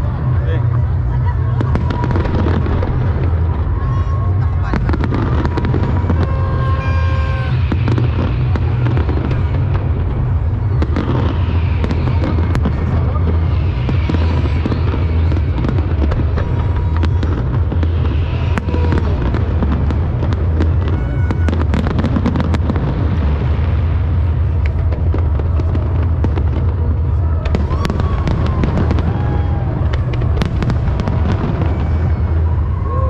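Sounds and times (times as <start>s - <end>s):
fireworks bursts and crackle: 0.0s - 33.0s
heavy low boom: 0.0s - 33.0s
whistling fireworks: 0.0s - 33.0s.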